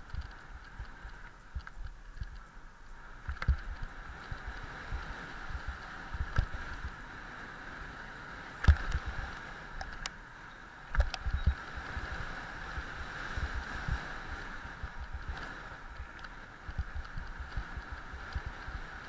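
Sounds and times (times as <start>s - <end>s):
rushing hiss of tyres and air: 2.9s - 19.0s.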